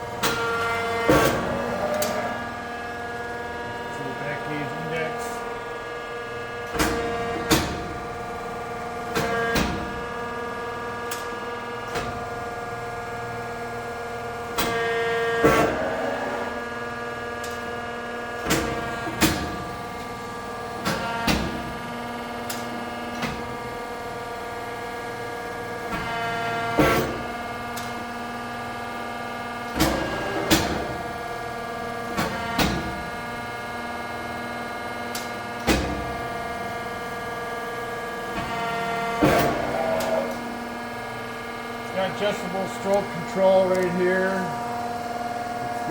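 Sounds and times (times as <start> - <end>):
machine hum: 0.0 - 35.3, 35.9 - 45.9.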